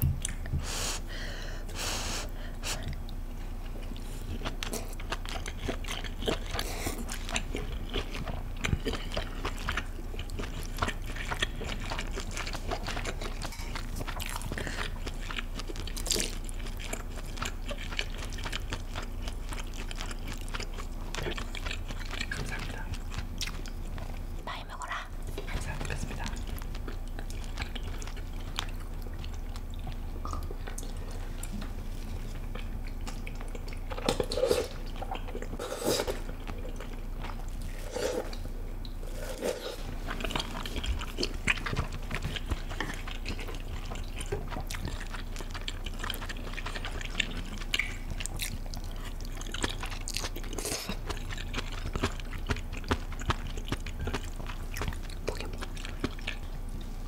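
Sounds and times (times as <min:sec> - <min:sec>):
wet chewing and mouth sounds: 0:00.0 - 0:01.0, 0:01.7 - 0:57.0.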